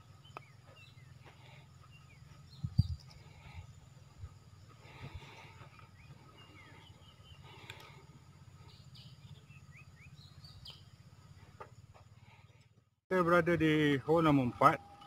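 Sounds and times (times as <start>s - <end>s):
birds chirping: 0.0s - 12.8s
low outdoor rumble: 0.0s - 13.8s.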